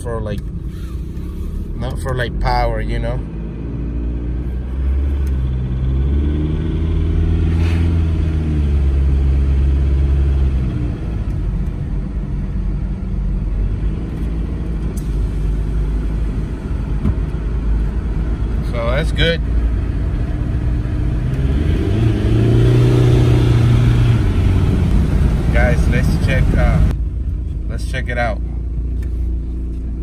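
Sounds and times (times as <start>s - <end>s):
diesel engine accelerating: 0.0s - 30.0s
road noise: 0.0s - 30.0s.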